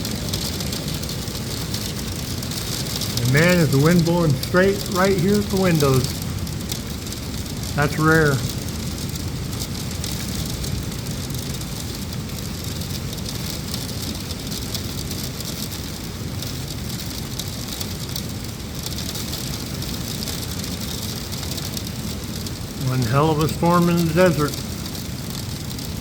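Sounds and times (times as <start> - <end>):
heavy rain against windows: 0.0 - 26.0.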